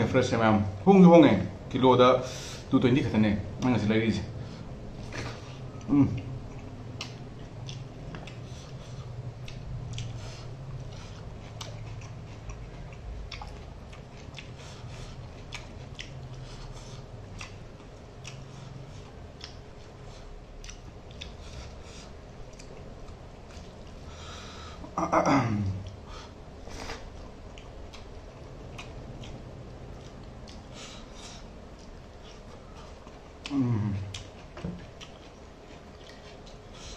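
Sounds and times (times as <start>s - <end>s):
low steady hum: 0.0s - 36.9s
chewing and lip-smacking: 5.1s - 24.2s, 25.8s - 36.9s.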